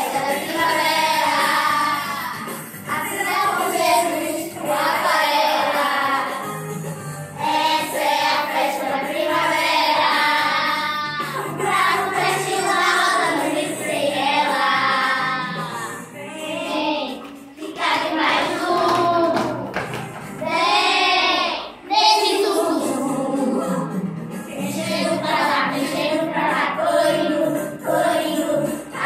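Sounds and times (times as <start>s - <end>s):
children singing in unison: 0.0s - 6.7s, 7.4s - 19.6s, 20.4s - 29.0s
backing music: 0.0s - 29.0s.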